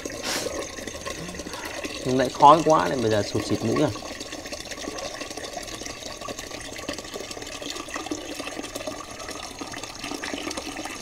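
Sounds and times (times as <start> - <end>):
tap water filling metal kettle: 0.0 - 11.0.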